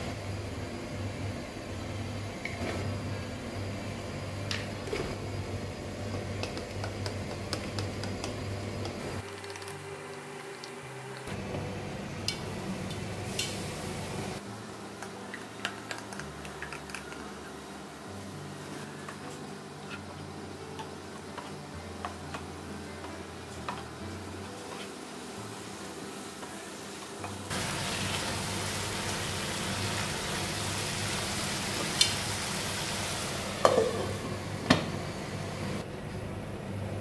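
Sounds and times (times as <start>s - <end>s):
loud steady sizzle: 0.0s - 37.0s.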